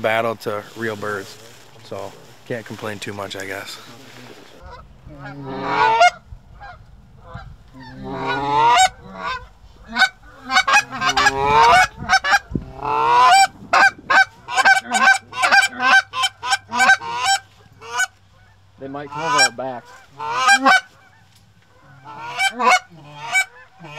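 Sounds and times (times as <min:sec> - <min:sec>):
goose clucking: 0:03.3 - 0:23.9
goose honking: 0:03.3 - 0:23.9.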